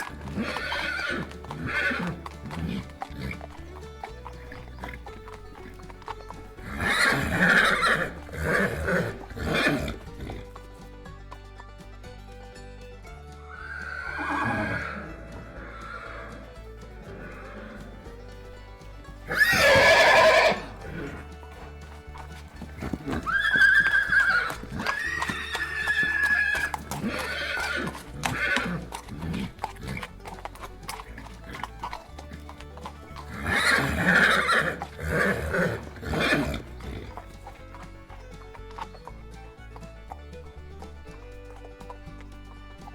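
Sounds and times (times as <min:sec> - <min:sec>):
background music: 0:00.0 - 0:42.9
hooves clopping: 0:00.0 - 0:42.9
horses neighing: 0:00.0 - 0:42.9.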